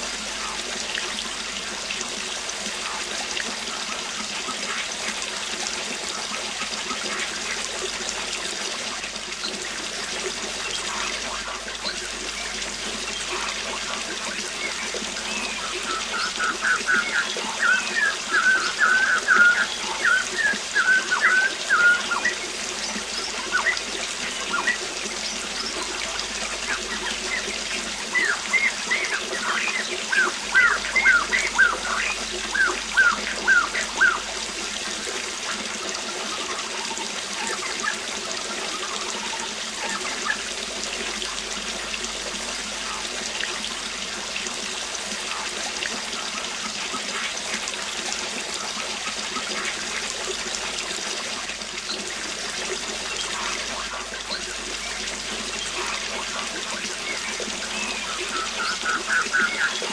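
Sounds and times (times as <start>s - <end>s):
waterfall rushing: 9.9s - 51.9s, 52.7s - 59.9s.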